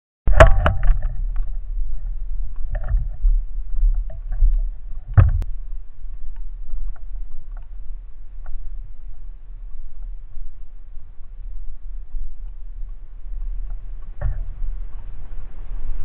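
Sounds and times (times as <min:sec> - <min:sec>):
wind rumble: 0:00.3 - 0:16.0
light clicks of gear: 0:00.8 - 0:16.0.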